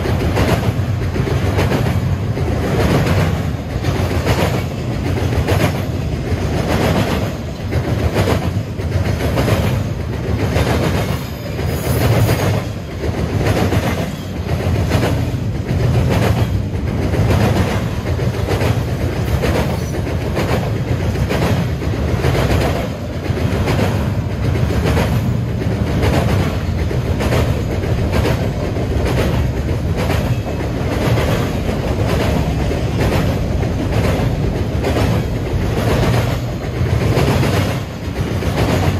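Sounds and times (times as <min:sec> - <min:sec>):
train cars rumbling past: 0:00.0 - 0:38.9
wheels clicking over rail joints: 0:00.0 - 0:38.9.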